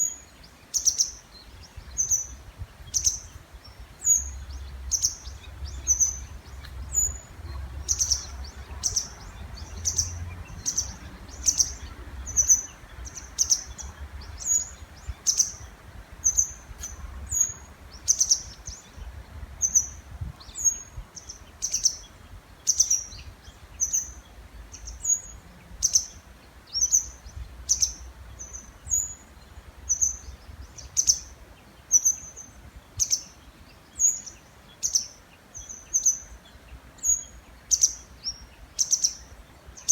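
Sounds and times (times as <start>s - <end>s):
small birds high-pitched calls: 0.0s - 39.9s.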